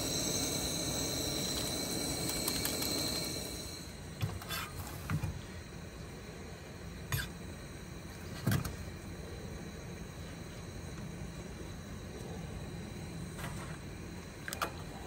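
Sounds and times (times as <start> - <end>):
camp stove burner hissing: 0.0 - 15.0.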